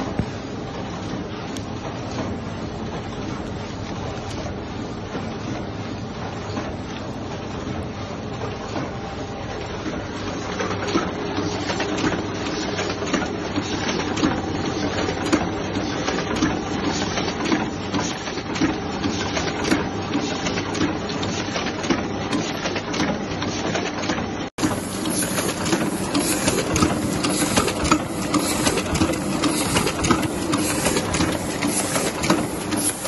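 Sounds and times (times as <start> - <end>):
printing press clattering: 0.0 - 33.0.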